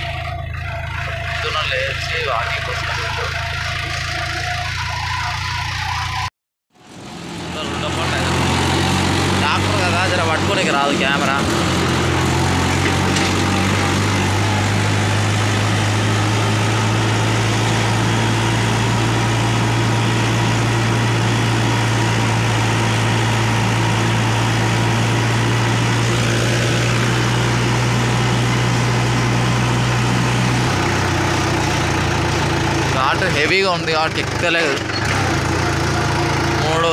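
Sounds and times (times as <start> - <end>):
tractor diesel engine labouring: 0.0 - 36.9.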